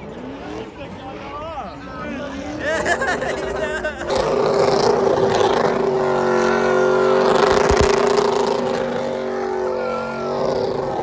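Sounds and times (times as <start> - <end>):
engine droning at high revs: 0.0 - 11.0.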